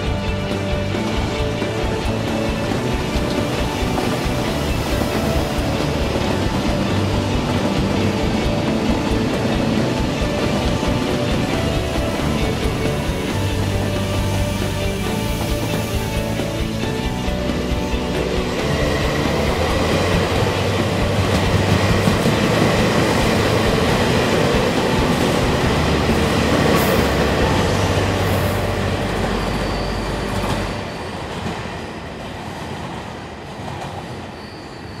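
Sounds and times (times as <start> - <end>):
electric train rumbling past: 0.0 - 35.0.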